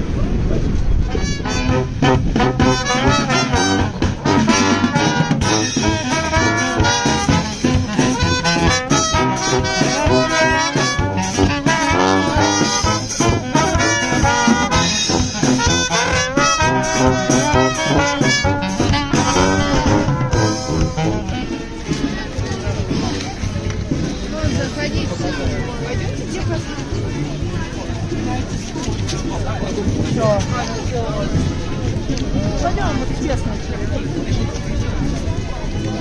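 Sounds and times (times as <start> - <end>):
swing brass music: 0.8 - 33.2.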